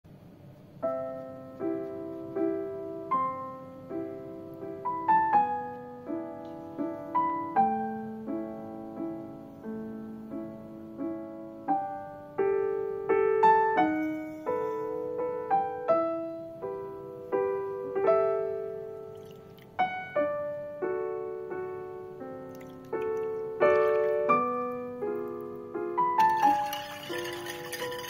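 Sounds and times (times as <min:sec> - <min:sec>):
gentle piano melody: 0:00.1 - 0:28.0.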